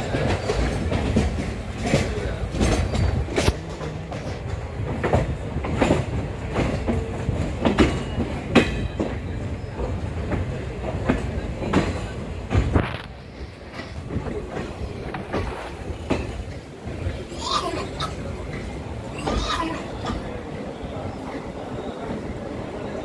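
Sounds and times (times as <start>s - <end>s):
train wheels clacking over rail joints: 0.0s - 22.2s.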